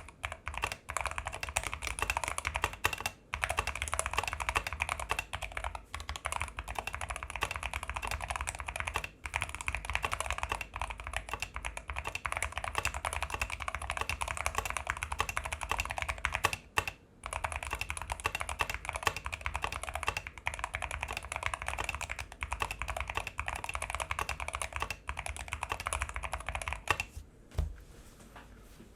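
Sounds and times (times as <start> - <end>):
fast typing on mechanical keyboard: 0.0 - 27.2.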